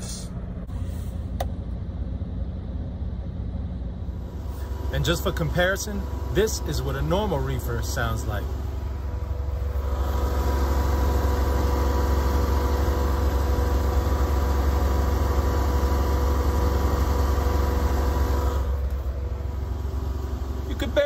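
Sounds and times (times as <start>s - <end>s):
refrigeration unit diesel drone: 0.0s - 21.0s.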